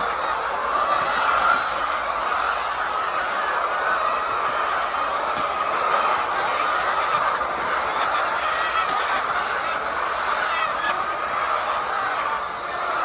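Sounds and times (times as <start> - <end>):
flock of hens clucking: 0.0 - 13.0.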